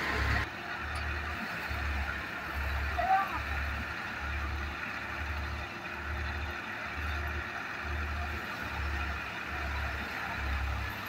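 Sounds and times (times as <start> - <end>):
tractor diesel engine: 0.0 - 11.0.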